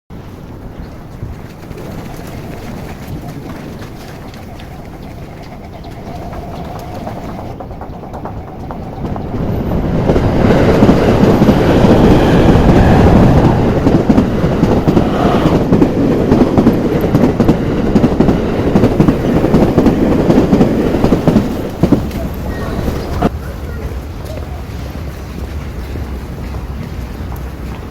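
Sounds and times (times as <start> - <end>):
train cars rumbling: 0.1 - 27.9
train wheels clattering: 1.1 - 27.9.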